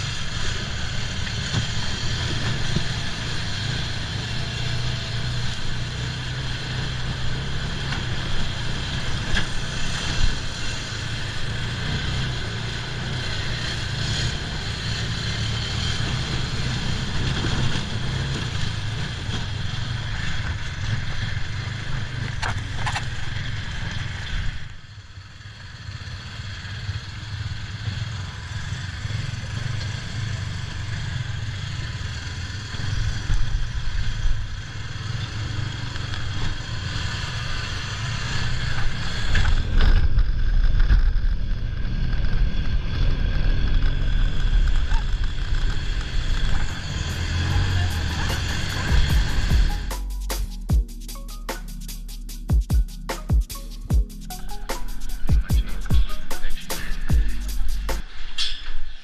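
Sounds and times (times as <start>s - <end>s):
buggy engine running: 0.0s - 59.0s
road and wind noise: 0.0s - 59.0s.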